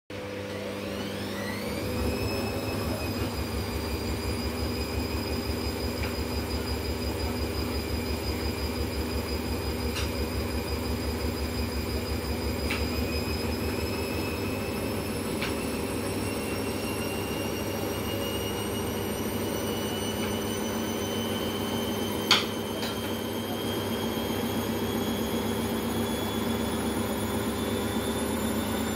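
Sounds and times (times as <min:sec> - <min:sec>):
washing machine spinning: 0:00.1 - 0:28.9.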